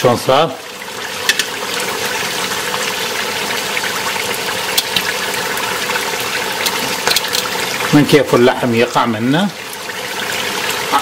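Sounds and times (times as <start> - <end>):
meat bubbling and sizzling: 0.0 - 11.0.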